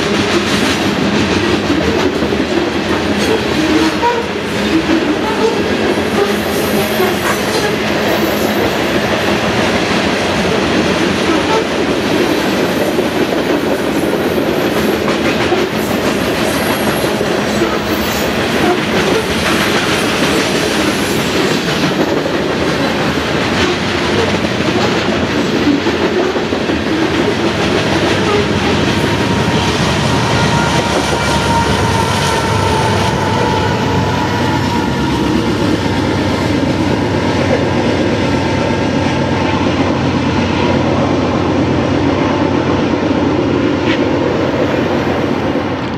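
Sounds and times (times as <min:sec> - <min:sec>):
steel wheels rumbling on rail: 0:00.0 - 0:45.9
wheels clickety-clack on rail joints: 0:00.0 - 0:45.9.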